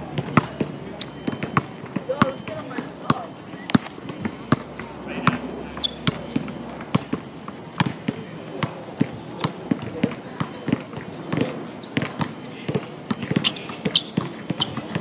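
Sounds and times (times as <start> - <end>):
basketball bouncing on asphalt: 0.0 - 15.0.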